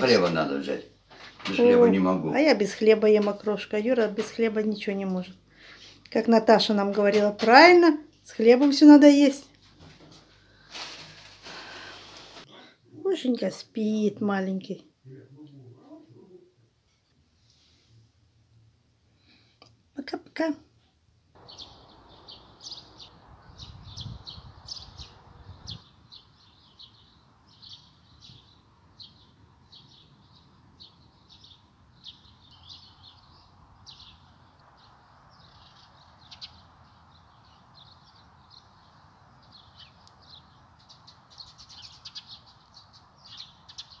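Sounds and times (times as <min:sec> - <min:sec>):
songbirds chirping: 0:00.0 - 0:17.9, 0:21.3 - 0:44.0.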